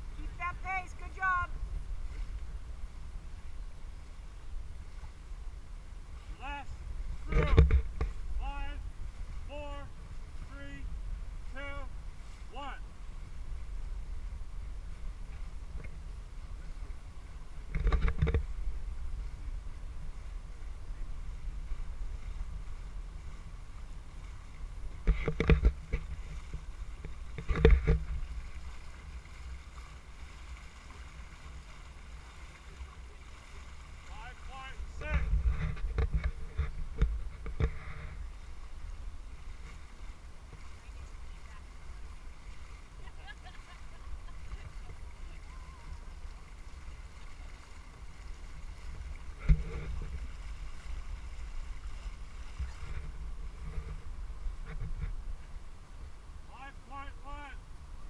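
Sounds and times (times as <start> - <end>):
wind and water rumble: 0.0 - 58.0.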